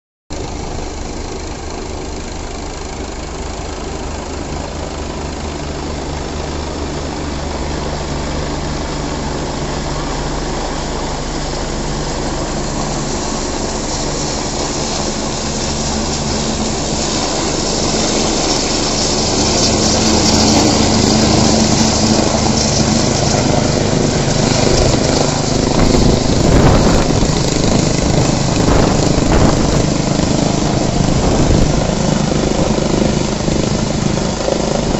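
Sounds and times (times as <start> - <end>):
helicopter rotor drone: 0.4 - 34.9.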